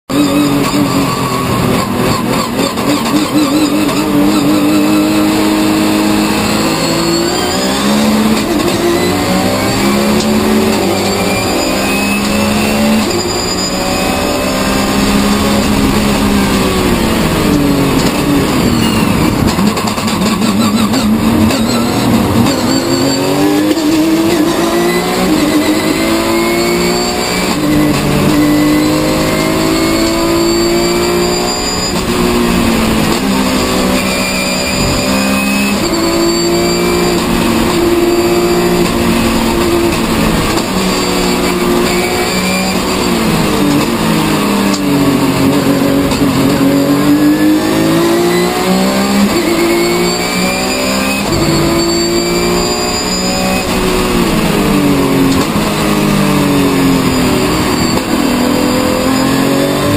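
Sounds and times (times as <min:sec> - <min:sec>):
racing car engine accelerating: 0:00.1 - 0:59.9.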